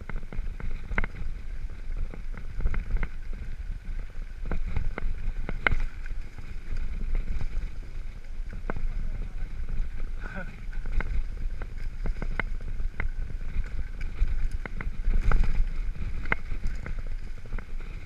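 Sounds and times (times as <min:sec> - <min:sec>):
bike clicking and rattling: 0:00.0 - 0:18.0
bike tyres rumbling on dirt trail: 0:00.0 - 0:18.0
wind on microphone: 0:00.0 - 0:18.0.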